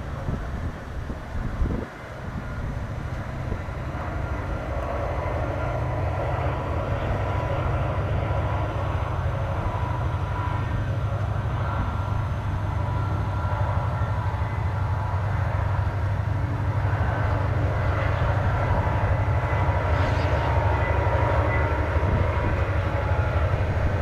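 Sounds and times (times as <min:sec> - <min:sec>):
diesel freight train rumbling: 0:00.0 - 0:24.0.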